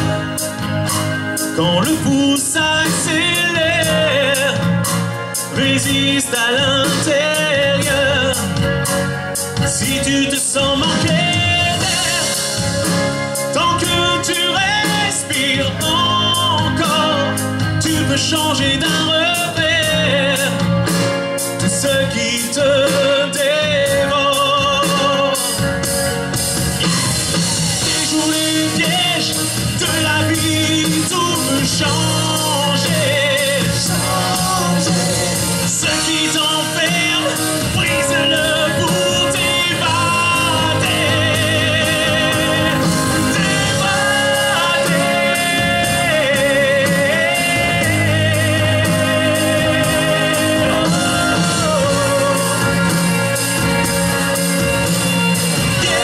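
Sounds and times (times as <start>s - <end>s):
man singing into microphone: 0.0s - 26.2s, 26.8s - 54.2s, 55.2s - 56.0s
drums: 0.0s - 56.0s
electric guitars: 0.0s - 56.0s.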